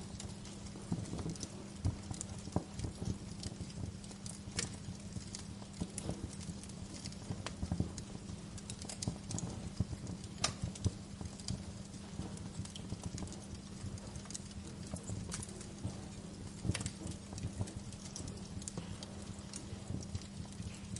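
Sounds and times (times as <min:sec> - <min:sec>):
low rumble of fire: 0:00.0 - 0:20.9
wood fire crackling and popping: 0:00.0 - 0:20.9.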